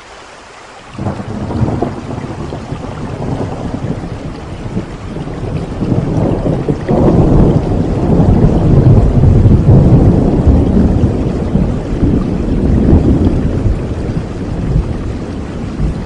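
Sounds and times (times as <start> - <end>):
steady rain: 0.0 - 16.0
thunder rumbling: 1.0 - 16.0.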